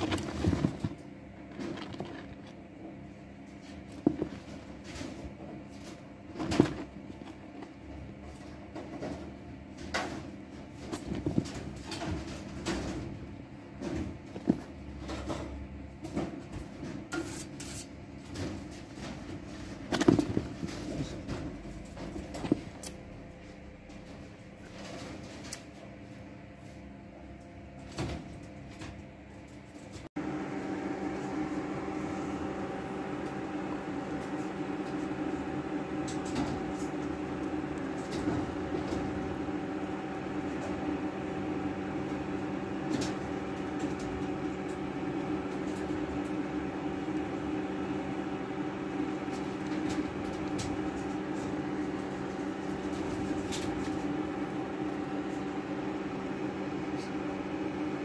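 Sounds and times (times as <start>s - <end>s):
mechanical hum with tones: 0.0s - 58.0s.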